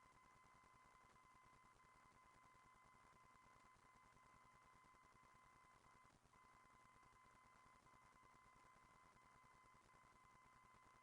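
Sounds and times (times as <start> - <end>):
faint steady high tone: 0.0 - 11.0.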